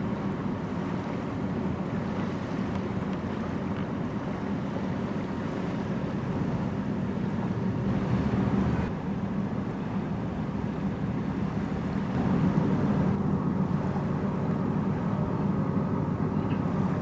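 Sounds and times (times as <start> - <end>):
ship engine low rumble: 0.0 - 17.0
wind buffeting microphone: 0.0 - 17.0.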